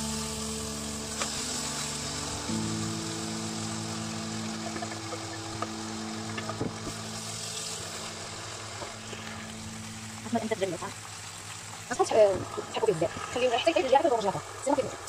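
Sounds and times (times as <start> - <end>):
background music: 0.0 - 12.2
chicken sizzling in oil: 0.0 - 15.0.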